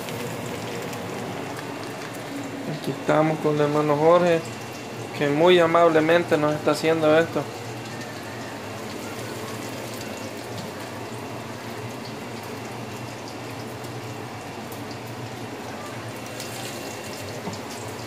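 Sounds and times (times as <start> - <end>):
seafood sizzling in hot oil: 0.0 - 3.0, 3.8 - 5.2, 5.8 - 18.0.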